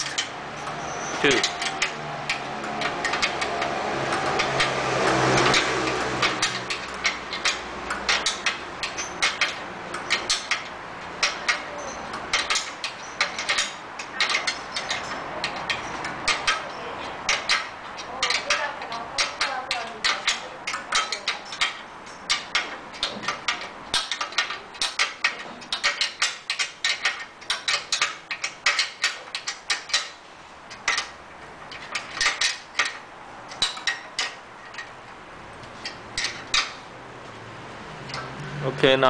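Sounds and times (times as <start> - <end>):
wrench clicking: 0.0 - 36.9.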